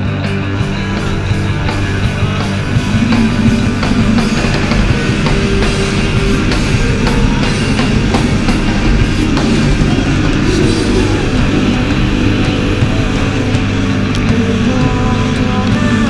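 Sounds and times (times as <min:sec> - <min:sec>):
loud rock music: 0:00.0 - 0:16.0
steady drum beat: 0:00.0 - 0:16.0.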